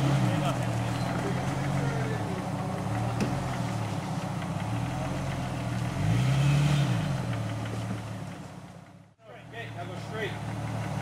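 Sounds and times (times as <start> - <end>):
vehicle engine idling and revving: 0.0 - 11.0.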